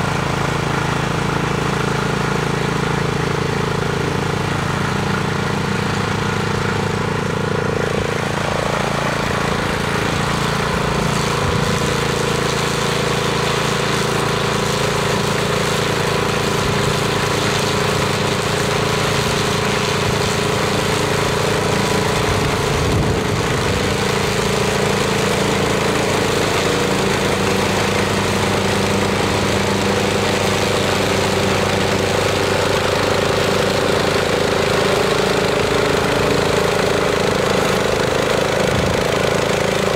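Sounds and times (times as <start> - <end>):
lawn mower engine running: 0.0 - 39.9
mower blade cutting grass: 0.0 - 39.9.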